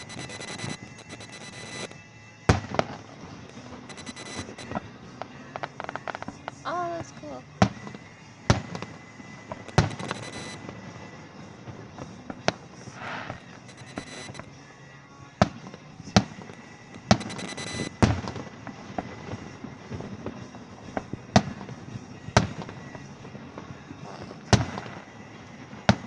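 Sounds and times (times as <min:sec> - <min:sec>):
fireworks crackle: 0:00.0 - 0:14.6, 0:15.4 - 0:26.0
fireworks bangs: 0:02.5 - 0:14.4, 0:15.4 - 0:26.0.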